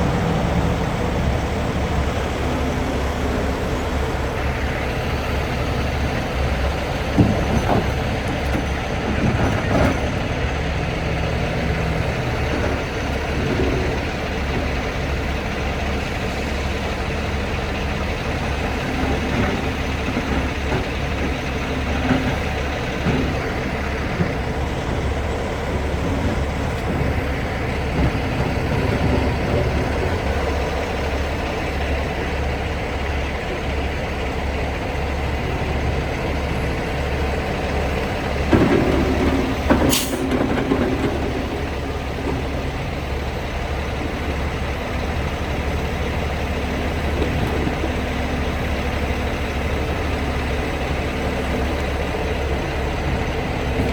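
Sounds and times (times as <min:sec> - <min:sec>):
truck diesel engine droning: 0:00.0 - 0:53.9.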